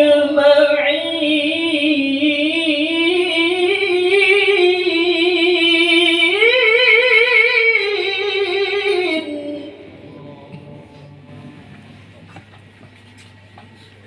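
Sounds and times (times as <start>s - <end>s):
person chanting a long note: 0.0s - 12.3s.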